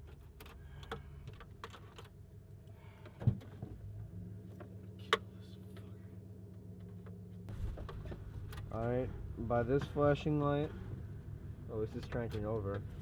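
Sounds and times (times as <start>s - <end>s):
low hum in vehicle cab: 0.0s - 13.0s.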